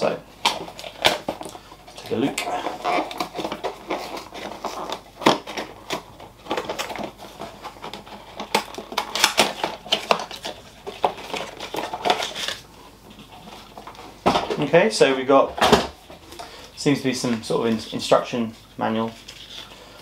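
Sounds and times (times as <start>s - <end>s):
cardboard and paper rustling: 0.0s - 20.0s.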